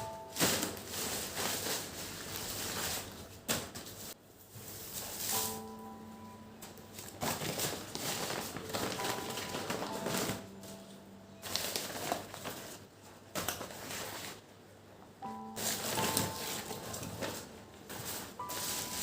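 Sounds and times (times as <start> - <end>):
crinkling and rustling: 0.0 - 5.8, 6.6 - 14.5, 15.6 - 19.0.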